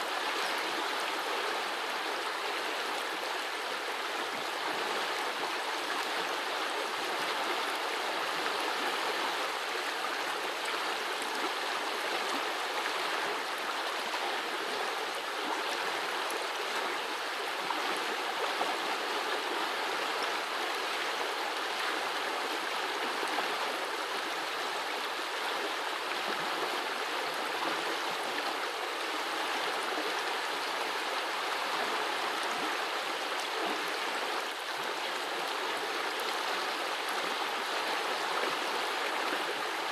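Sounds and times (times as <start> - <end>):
brook burbling over stones: 0.0 - 39.9.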